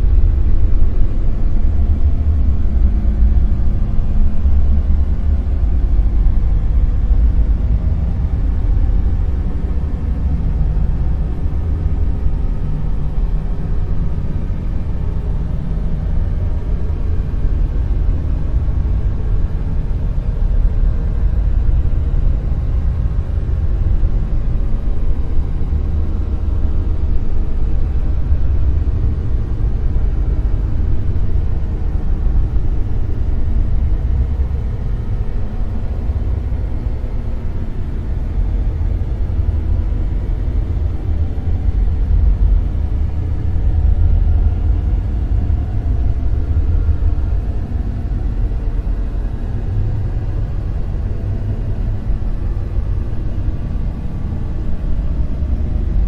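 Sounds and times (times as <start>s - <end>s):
deep rumbling dark noise: 0.0s - 56.0s.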